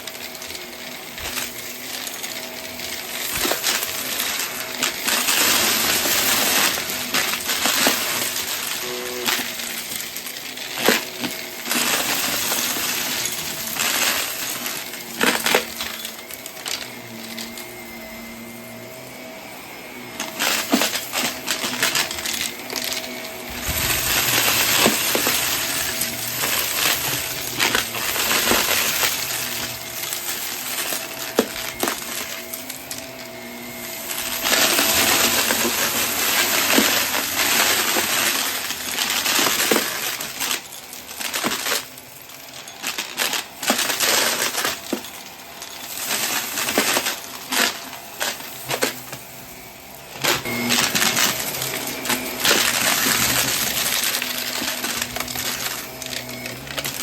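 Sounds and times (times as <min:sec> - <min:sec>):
debris rattling into vacuum: 0:00.0 - 0:19.2, 0:20.0 - 0:57.0
vacuum cleaner humming: 0:00.0 - 0:57.0.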